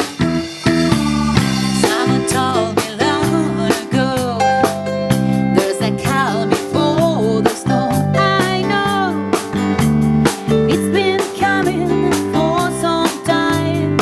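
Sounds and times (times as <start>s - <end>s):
drum kit beat: 0.0s - 14.0s
electric bass: 0.0s - 14.0s
piano: 0.0s - 14.0s
woman singing: 1.3s - 14.0s.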